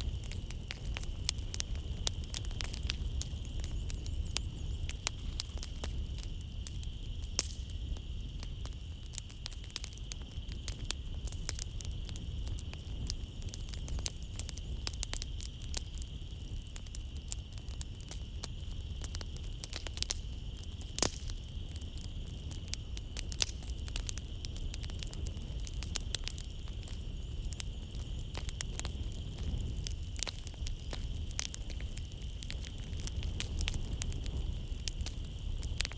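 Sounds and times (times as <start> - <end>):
night insects trilling: 0.0 - 35.9
wood fire crackling and popping: 0.0 - 35.9.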